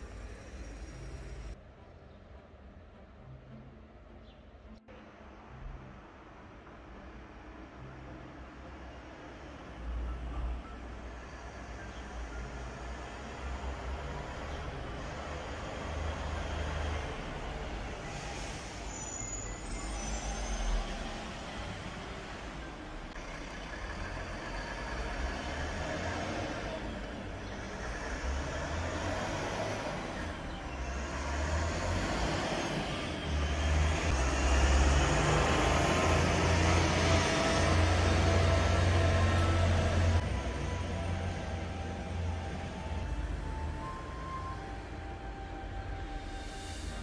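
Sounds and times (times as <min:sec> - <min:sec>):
truck diesel engine: 0:00.0 - 0:01.6, 0:09.5 - 0:47.0
street traffic: 0:00.0 - 0:47.0.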